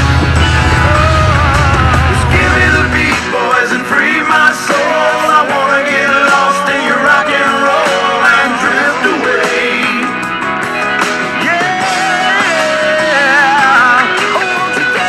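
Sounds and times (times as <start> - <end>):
guitar: 0.0 - 15.0
rock music: 0.0 - 15.0
person singing: 0.2 - 10.3, 11.3 - 15.0.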